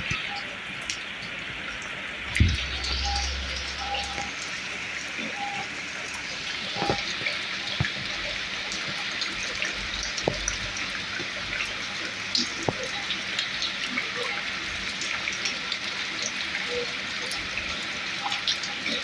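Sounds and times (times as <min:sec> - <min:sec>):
heavy rain falling: 0:00.0 - 0:19.0
raindrops clicking close by: 0:00.0 - 0:19.0.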